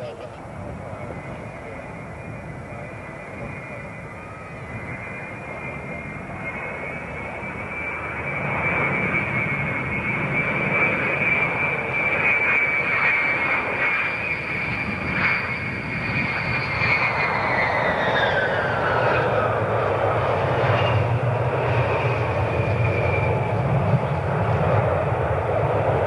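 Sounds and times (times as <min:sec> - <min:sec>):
airliner engines rushing: 0:00.0 - 0:26.0
high engine whine: 0:00.0 - 0:26.0.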